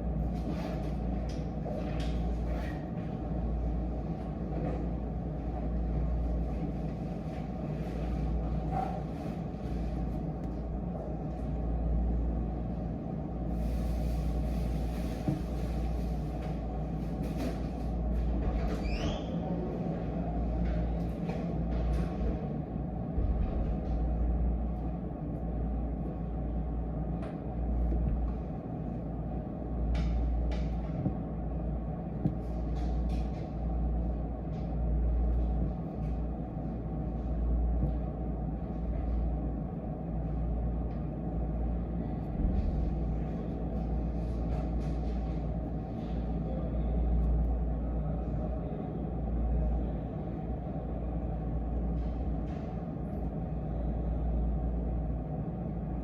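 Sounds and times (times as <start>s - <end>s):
low background rumble: 0.0s - 56.0s.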